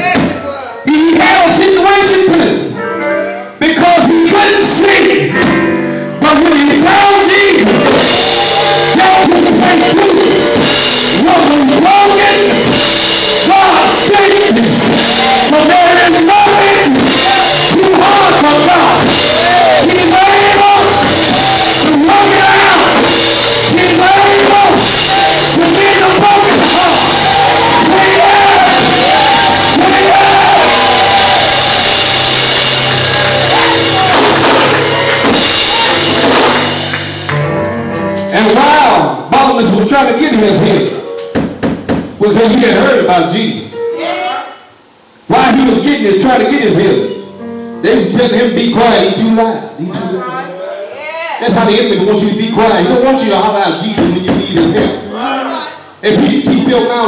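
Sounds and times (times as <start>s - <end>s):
live gospel singing: 0.0s - 41.3s, 42.2s - 50.0s, 51.4s - 55.1s, 56.0s - 57.0s
church music accompaniment: 0.0s - 50.6s, 51.4s - 55.1s, 55.8s - 57.0s.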